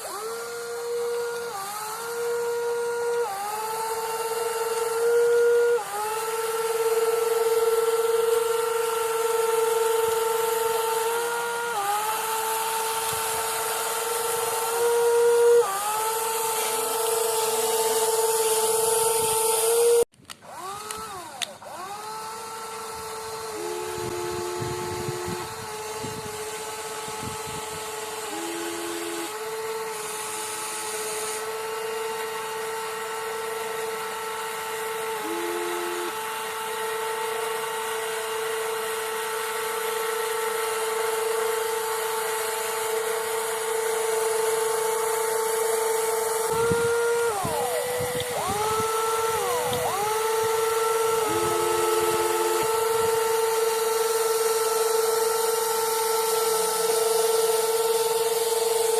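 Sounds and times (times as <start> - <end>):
lower motor tone: 0.0 - 58.9
small electric motors whining: 0.0 - 58.9.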